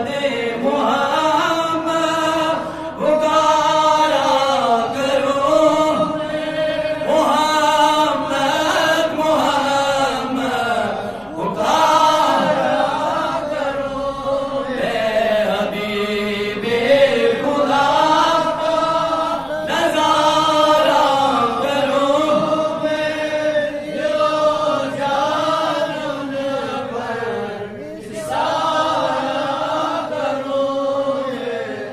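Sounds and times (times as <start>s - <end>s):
man chanting into a microphone: 0.0s - 31.4s.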